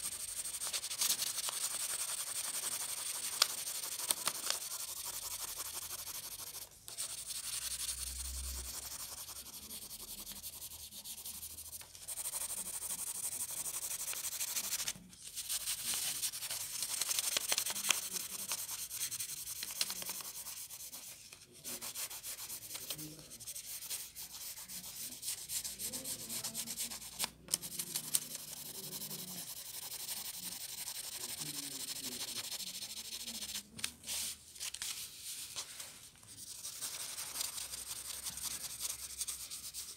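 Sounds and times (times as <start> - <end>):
pencil scratching on paper: 0.0 - 34.3, 36.3 - 39.9.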